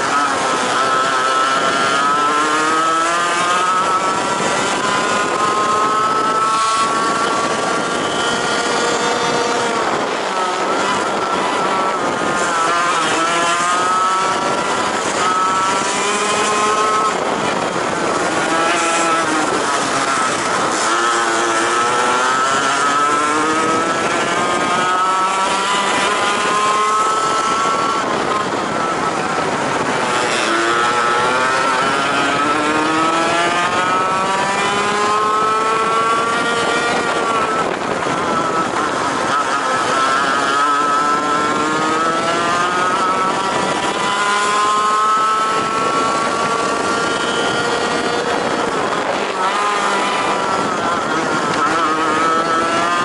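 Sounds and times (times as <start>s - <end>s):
kart engine accelerating: 0.0s - 53.0s.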